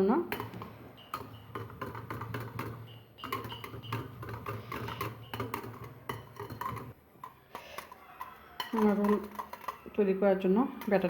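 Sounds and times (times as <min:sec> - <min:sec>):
whisk tapping against bowl: 0:00.3 - 0:09.9.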